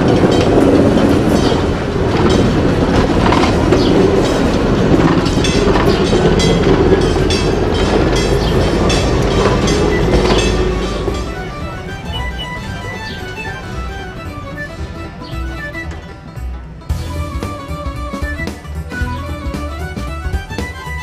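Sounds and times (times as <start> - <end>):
train coach rolling on steel wheels: 0.0 - 21.0
wheels clicking over rail joints: 0.0 - 21.0.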